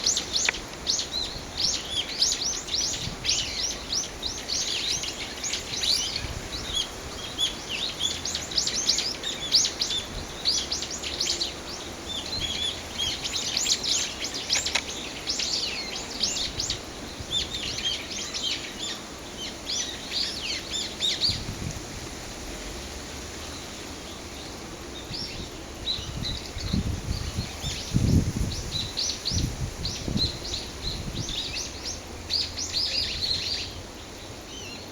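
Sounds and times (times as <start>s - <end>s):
small birds chirping: 0.0s - 21.8s, 23.3s - 34.9s.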